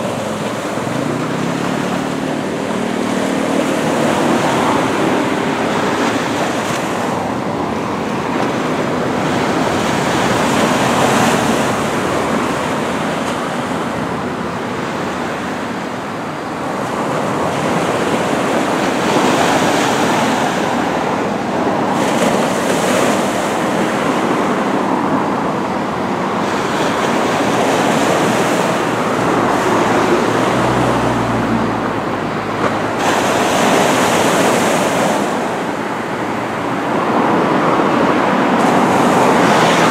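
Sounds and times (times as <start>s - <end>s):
surf breaking on beach: 0.0s - 39.9s.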